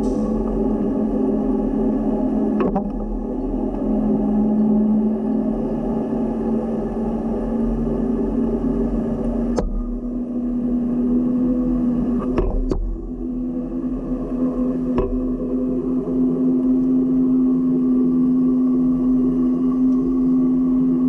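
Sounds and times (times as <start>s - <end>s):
motor running steadily: 0.0s - 21.0s.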